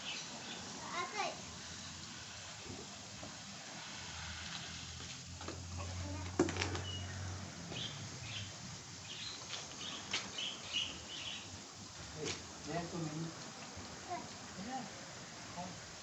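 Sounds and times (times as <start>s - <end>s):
hose water spraying on car: 0.0s - 16.0s
water pattering on wet paving: 0.2s - 16.0s.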